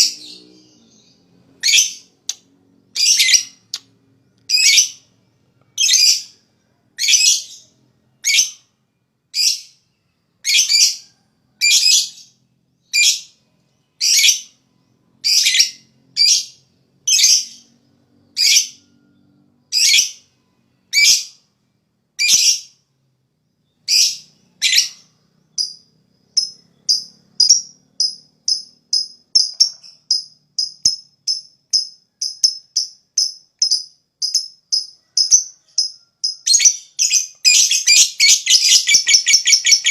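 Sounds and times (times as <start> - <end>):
lovebird chirping: 0.0 - 39.9.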